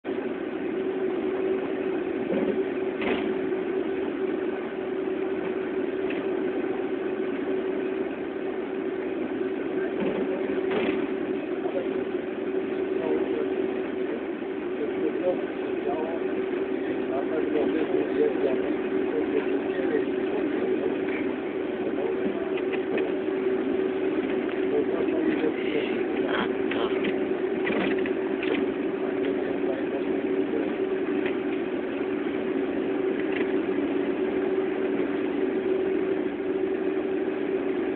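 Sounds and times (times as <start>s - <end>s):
vehicle engine and road noise: 0.0s - 37.9s.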